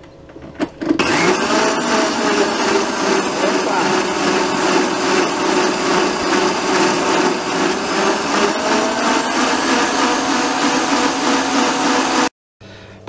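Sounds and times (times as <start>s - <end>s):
electric stand mixer whisking: 1.0s - 12.3s.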